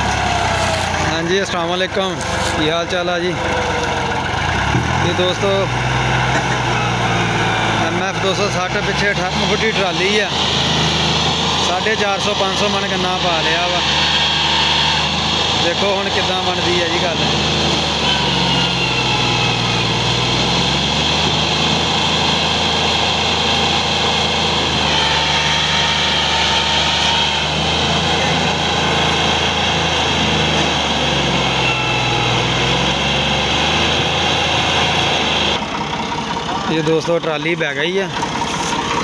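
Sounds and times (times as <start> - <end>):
tractor diesel engine straining: 0.0 - 39.0.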